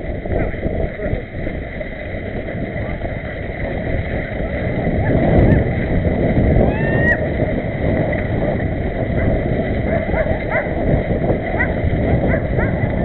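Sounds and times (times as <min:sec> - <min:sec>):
galloping hoofbeats: 0:00.0 - 0:13.0
wind buffeting microphone: 0:00.0 - 0:13.0.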